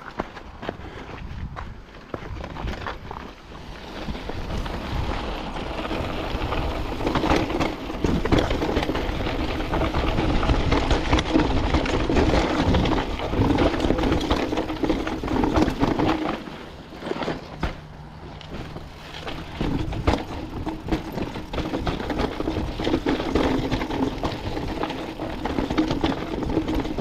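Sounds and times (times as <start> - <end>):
bike tyres rolling over gravel: 0.0 - 27.0.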